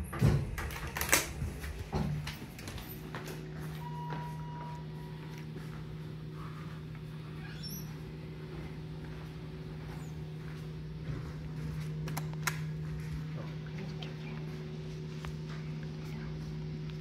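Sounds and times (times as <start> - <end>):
low equipment hum: 0.0 - 17.0.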